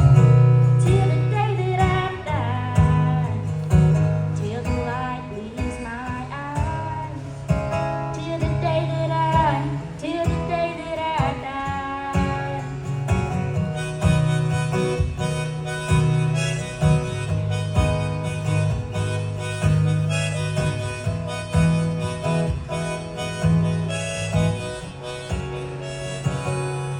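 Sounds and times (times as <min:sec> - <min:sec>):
woman singing country song: 0:00.0 - 0:22.8
strummed acoustic guitar: 0:00.0 - 0:26.9.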